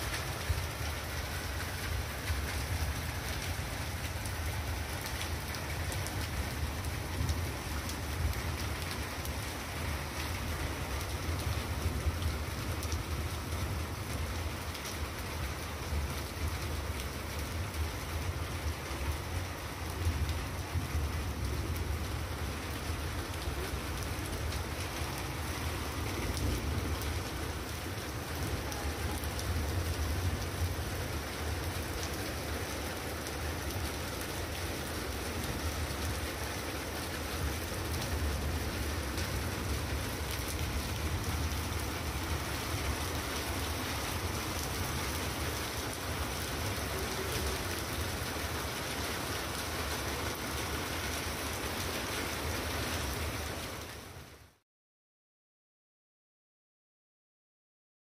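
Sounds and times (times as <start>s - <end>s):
rain falling: 0.0s - 54.6s.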